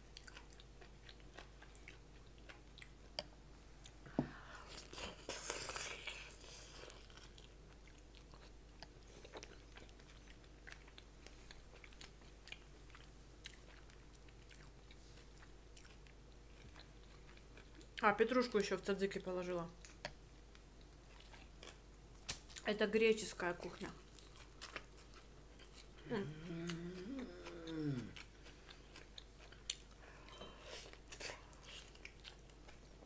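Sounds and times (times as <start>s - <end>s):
person chewing food: 0.0s - 18.0s, 19.8s - 22.6s, 24.0s - 33.0s.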